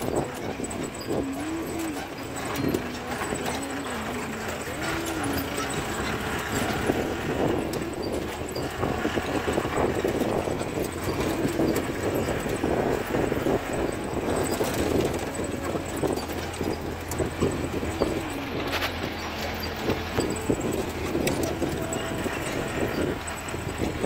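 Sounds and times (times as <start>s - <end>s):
body rattling and knocking: 0.0s - 24.0s
jeep engine running: 0.0s - 24.0s.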